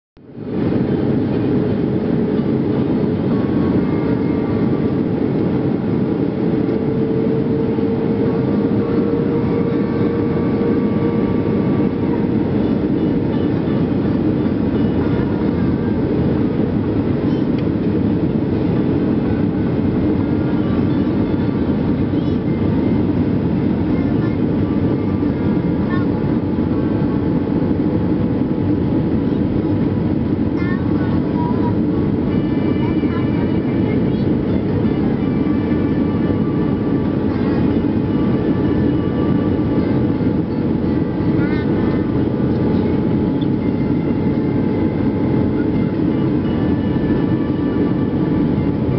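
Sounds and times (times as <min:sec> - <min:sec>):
airliner engine and airflow rush: 0:00.2 - 0:48.9
steady humming tone: 0:00.2 - 0:48.9.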